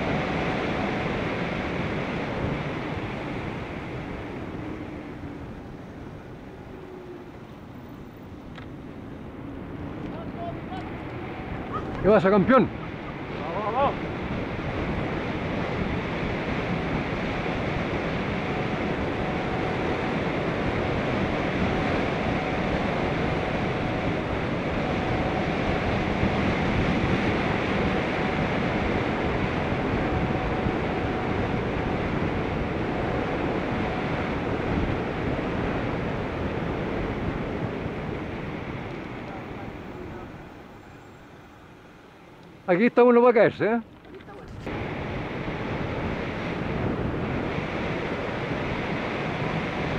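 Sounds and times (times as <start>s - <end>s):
faint steady whine: 0.0s - 49.9s
wind rushing over microphone: 0.0s - 49.9s.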